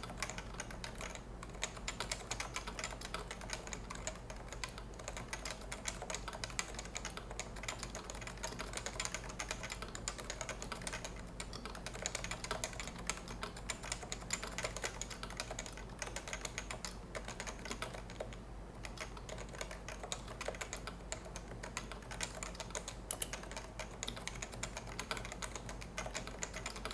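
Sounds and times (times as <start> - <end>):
fast keyboard typing: 0.0 - 26.9.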